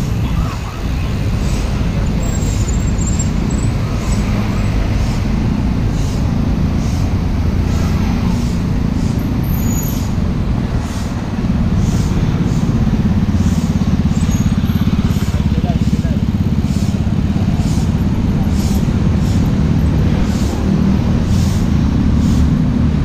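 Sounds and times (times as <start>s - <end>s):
motor scooter engine approaching: 0.0s - 23.0s
road traffic rumble: 0.0s - 23.0s.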